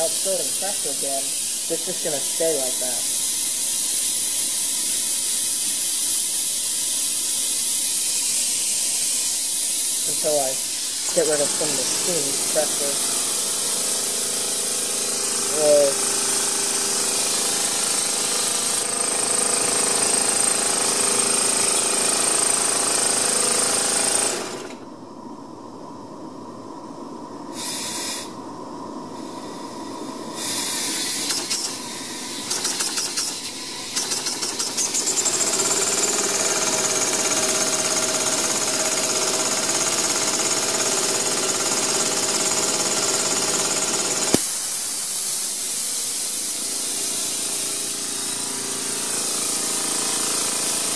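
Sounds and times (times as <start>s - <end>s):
steam valve hissing and whistling: 0.0s - 24.7s, 27.5s - 28.4s, 29.2s - 50.9s.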